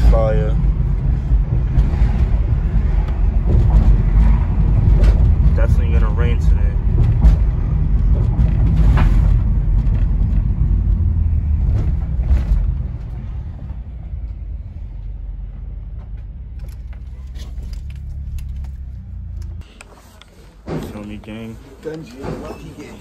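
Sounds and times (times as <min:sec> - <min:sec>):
van engine and road noise: 0:00.0 - 0:23.0.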